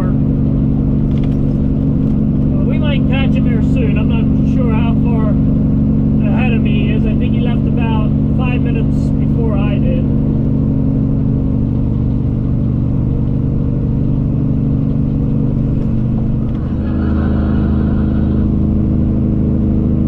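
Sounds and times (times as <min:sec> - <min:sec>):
truck diesel engine drone: 0:00.0 - 0:20.0.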